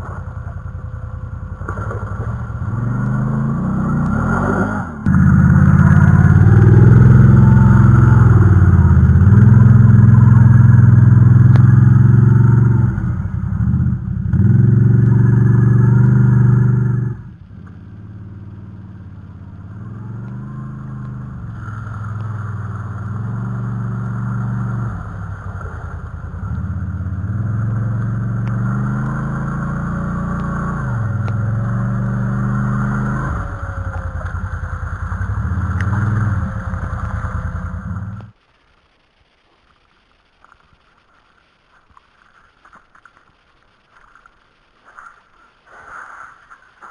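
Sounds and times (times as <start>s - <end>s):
atv engine revving: 0.0s - 38.4s.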